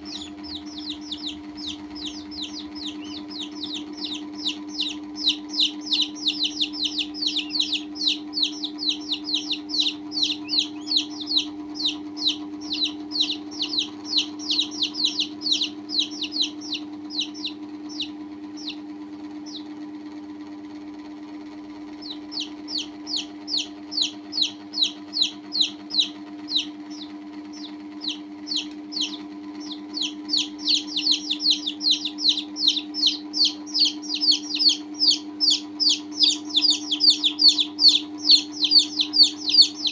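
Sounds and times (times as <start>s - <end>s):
baby chicks peeping: 0.0s - 20.5s, 21.8s - 39.9s
steady low hum: 0.0s - 39.9s.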